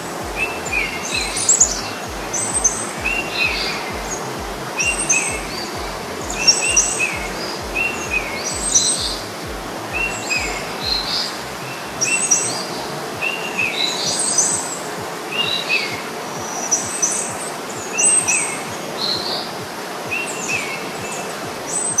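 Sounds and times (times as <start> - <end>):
birds chirping: 0.0 - 22.0
steady background hiss: 0.0 - 22.0.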